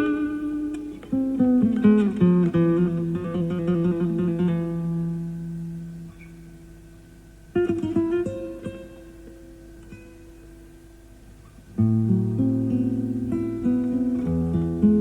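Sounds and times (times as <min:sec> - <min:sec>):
classical guitar playing: 0:00.0 - 0:15.0.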